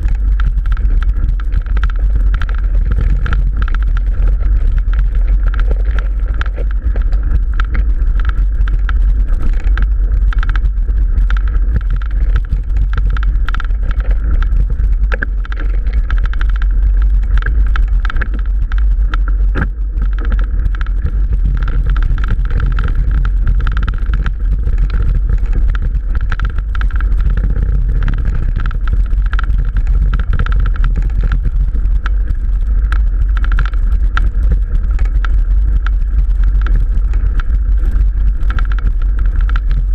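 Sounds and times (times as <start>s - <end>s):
bike rattling over bumps: 0.0s - 39.9s
wind and vibration rumble: 0.0s - 39.9s.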